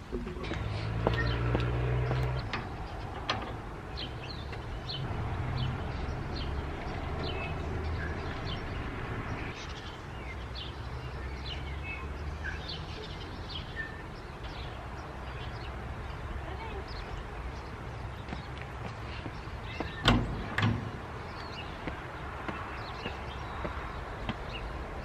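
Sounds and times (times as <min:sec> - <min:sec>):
small birds chirping: 0:00.2 - 0:25.0.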